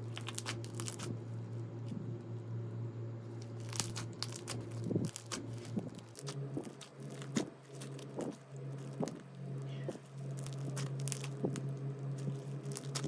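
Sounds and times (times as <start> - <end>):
slime crackling and popping: 0.0 - 1.2, 3.3 - 13.0
steady low hum: 0.0 - 13.0.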